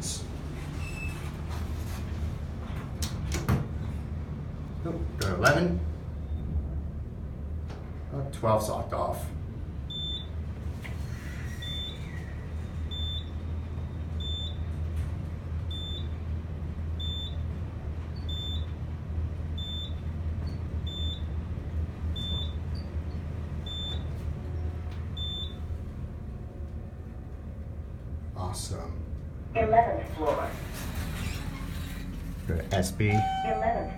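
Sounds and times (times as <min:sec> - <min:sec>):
elevator hum: 0:00.0 - 0:33.9.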